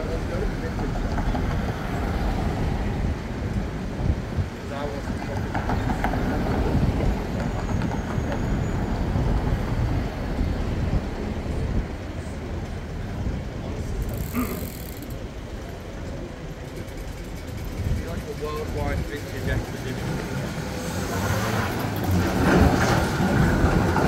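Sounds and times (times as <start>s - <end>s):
street traffic: 0.0s - 24.0s
tram rumbling past: 0.0s - 24.0s.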